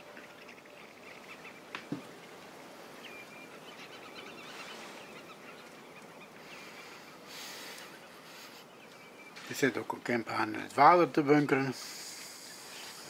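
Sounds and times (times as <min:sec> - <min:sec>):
steady outdoor hiss: 0:00.0 - 0:13.0
wild birds calling: 0:00.0 - 0:13.0.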